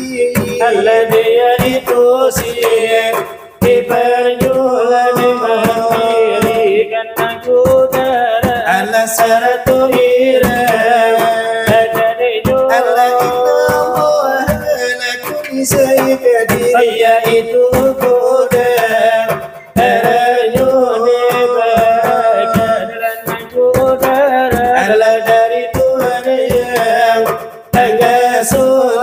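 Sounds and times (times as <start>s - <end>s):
men singing devotional verses: 0.0s - 29.0s.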